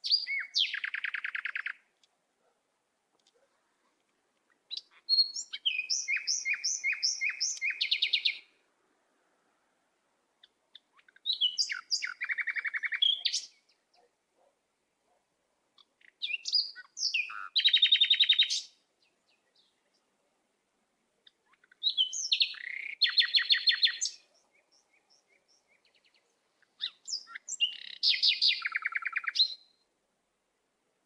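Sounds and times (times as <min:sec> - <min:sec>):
songbird singing: 0:00.0 - 0:30.0.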